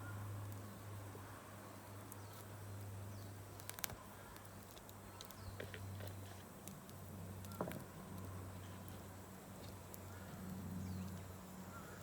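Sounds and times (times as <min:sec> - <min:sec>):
steady low hum: 0:00.0 - 0:12.0
campfire crackling: 0:00.3 - 0:12.0.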